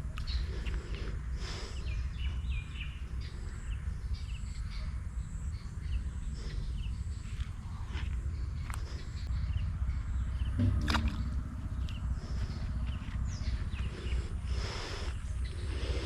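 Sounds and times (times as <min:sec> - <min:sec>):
low rumble of open-air noise: 0:00.0 - 0:16.0.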